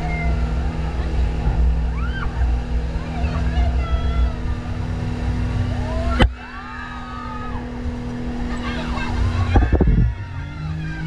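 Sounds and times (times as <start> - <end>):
faint voices calling: 0.0 - 11.0
rumble of water and wind: 0.0 - 11.0
speedboat engine running: 0.0 - 11.0.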